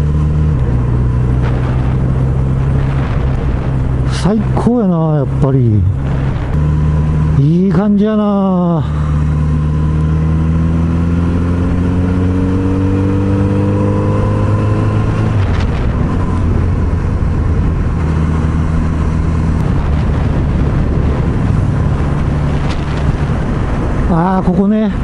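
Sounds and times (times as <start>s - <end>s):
wind rush over microphone: 0.0s - 8.0s, 8.8s - 25.0s.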